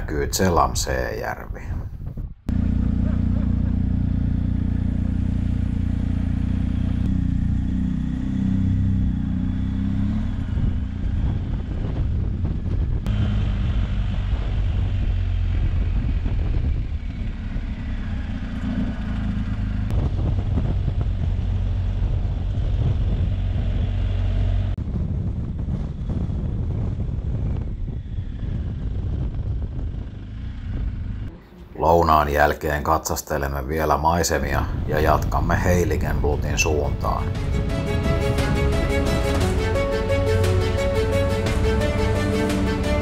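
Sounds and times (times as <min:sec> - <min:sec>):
motorcycle engine running: 0:02.5 - 0:31.8, 0:36.3 - 0:43.0.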